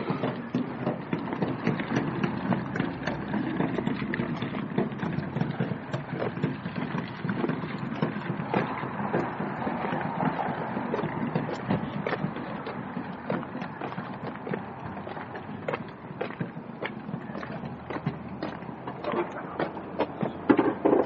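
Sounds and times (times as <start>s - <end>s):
knocks and rattles: 0.0s - 21.0s
wheels rumbling over hard ground: 0.0s - 21.0s.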